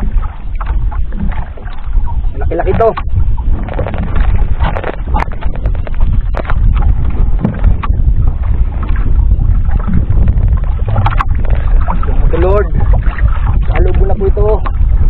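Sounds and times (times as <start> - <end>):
water slapping boat hull: 0.0 - 15.0
wind buffeting microphone: 0.0 - 15.0.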